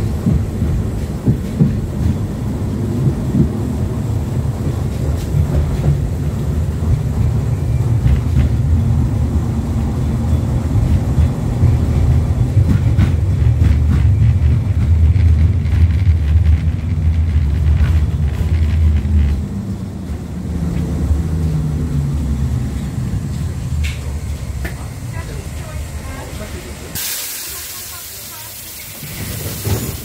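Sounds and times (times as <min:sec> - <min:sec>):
tram wheels rumbling on rails: 0:00.0 - 0:30.0.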